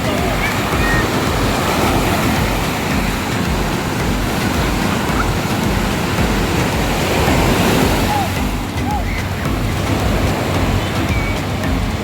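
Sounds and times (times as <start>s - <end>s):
ocean waves on a beach: 0.0s - 12.0s
wind buffeting microphone: 0.0s - 12.0s.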